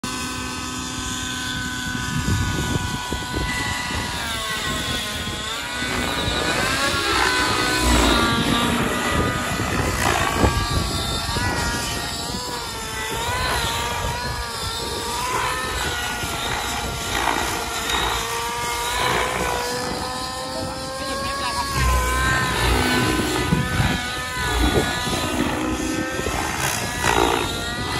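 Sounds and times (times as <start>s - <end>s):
model helicopter rotor whine: 0.0s - 27.9s
rushing blade noise: 2.9s - 27.9s.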